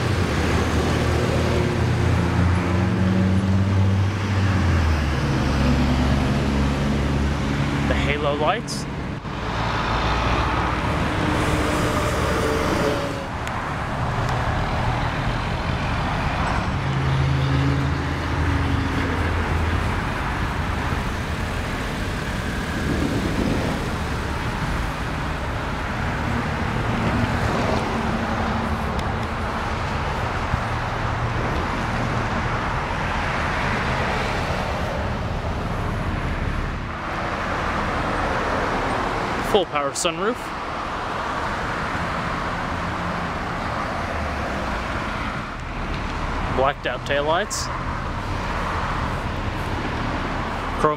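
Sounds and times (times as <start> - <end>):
cars and trucks passing: 0.0 - 50.9.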